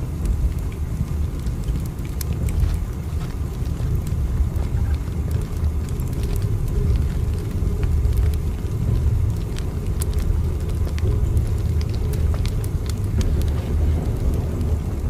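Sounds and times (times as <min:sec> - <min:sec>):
moving train rumble: 0:00.0 - 0:15.0
light clicks and ticks: 0:00.2 - 0:15.0.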